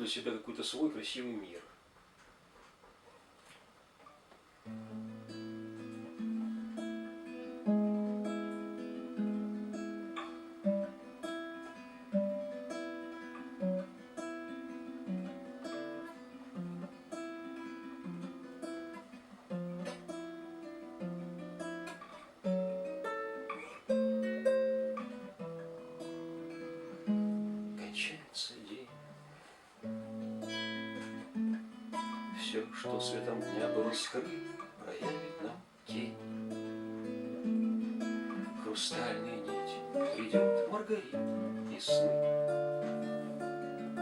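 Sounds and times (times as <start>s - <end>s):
acoustic guitar picking: 4.1s - 28.2s, 28.9s - 44.0s.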